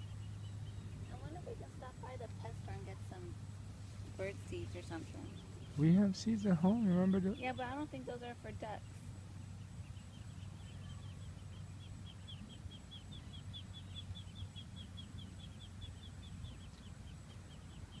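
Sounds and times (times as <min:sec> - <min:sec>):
ducklings peeping: 0:00.0 - 0:03.5, 0:04.1 - 0:18.0.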